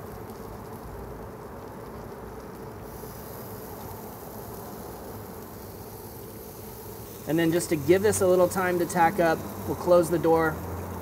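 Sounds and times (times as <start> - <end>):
pellet grill humming and hissing: 0.0 - 11.0.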